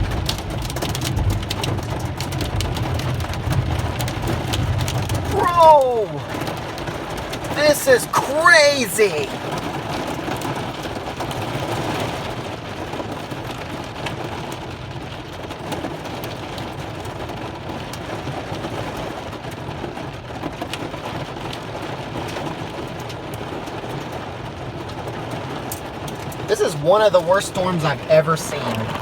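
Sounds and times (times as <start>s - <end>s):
heavy rain on a car: 0.0s - 29.0s.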